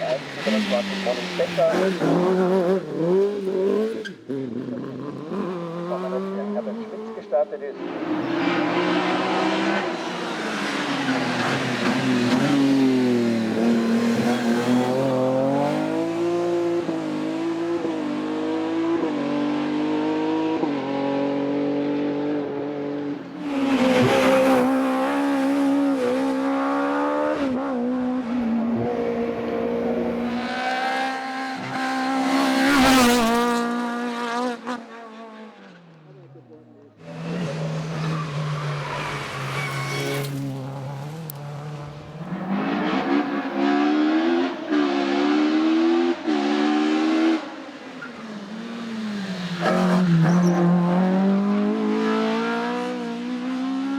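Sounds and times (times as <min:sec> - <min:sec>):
car revving high: 0:00.0 - 0:35.3, 0:39.4 - 0:53.9
racing car engines accelerating: 0:00.0 - 0:53.9.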